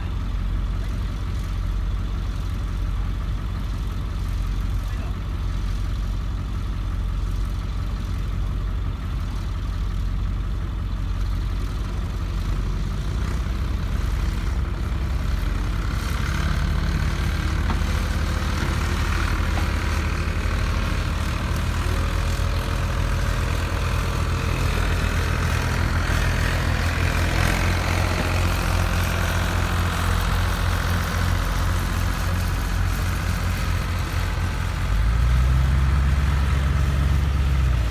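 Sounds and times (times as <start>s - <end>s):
diesel engine under load: 0.0s - 37.9s.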